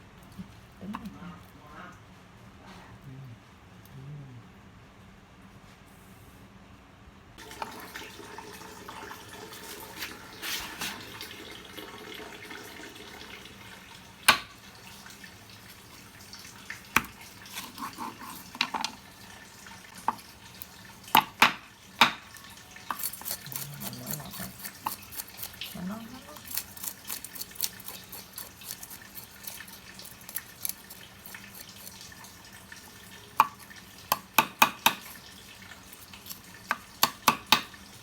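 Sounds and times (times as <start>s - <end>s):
water running from a tap: 7.4s - 38.0s.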